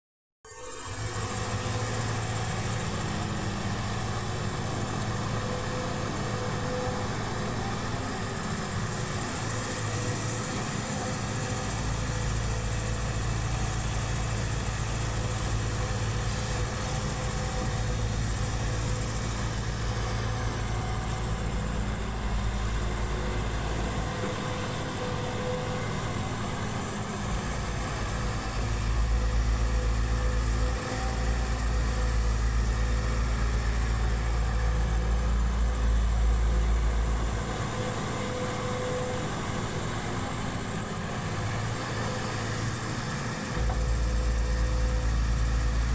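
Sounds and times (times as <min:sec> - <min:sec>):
excavator diesel engine droning: 0:00.5 - 0:45.9.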